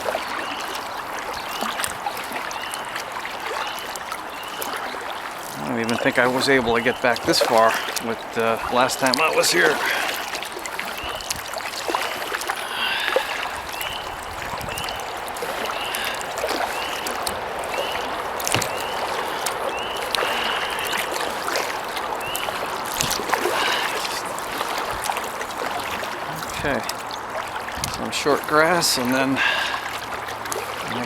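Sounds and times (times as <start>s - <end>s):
water splashing off paddle: 0.0s - 31.0s.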